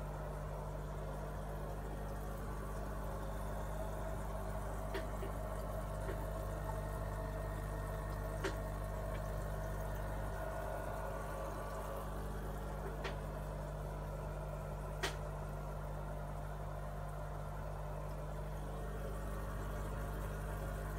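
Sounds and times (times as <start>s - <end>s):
aquarium pump humming: 0.0s - 20.9s
water bubbling: 0.3s - 20.9s.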